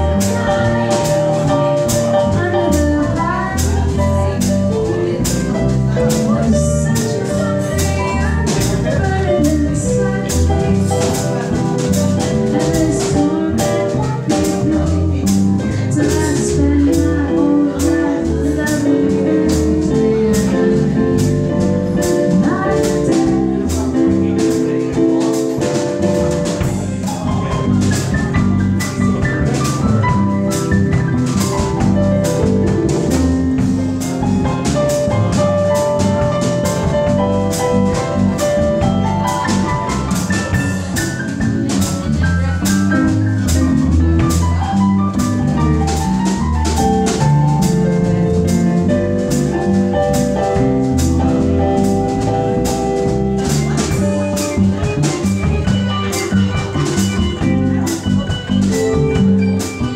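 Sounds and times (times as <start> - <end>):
drum kit with cymbal strokes: 0.0 - 59.9
keyboard: 0.0 - 59.9
upright bass: 0.0 - 59.9.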